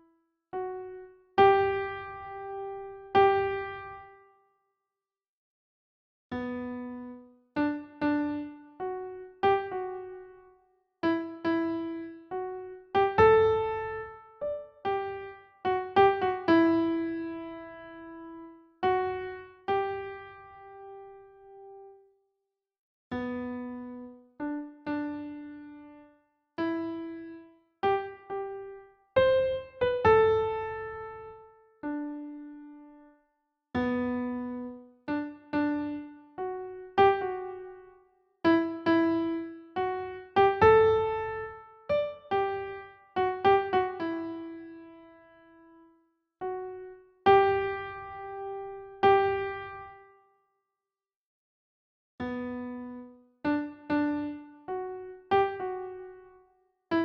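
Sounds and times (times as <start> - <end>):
gentle solo piano melody: 0.6 - 4.2, 6.3 - 22.0, 23.1 - 33.1, 33.8 - 45.8, 46.4 - 50.1, 52.2 - 57.0.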